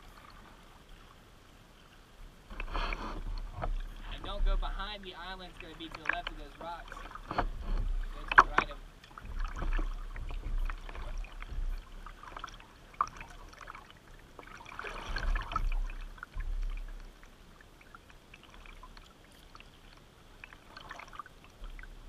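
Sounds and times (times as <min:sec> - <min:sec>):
water splashing around kayak: 0:00.0 - 0:22.0.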